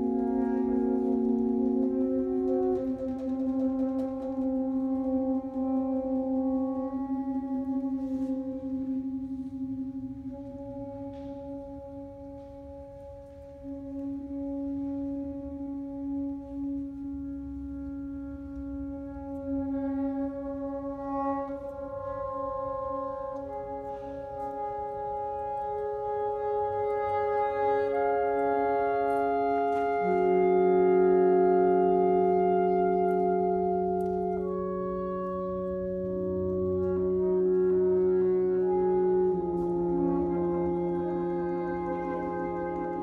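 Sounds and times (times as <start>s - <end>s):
saxophone quartet playing chords: 0.0s - 43.0s.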